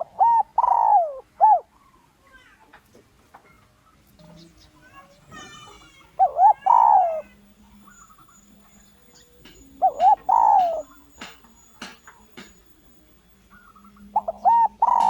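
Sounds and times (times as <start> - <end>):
dove cooing: 0.0 - 1.8, 4.2 - 15.0.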